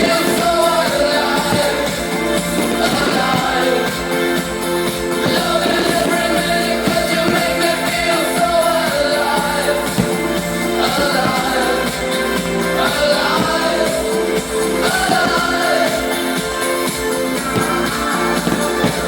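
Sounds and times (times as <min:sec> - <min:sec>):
pop music with singing: 0:00.0 - 0:19.0.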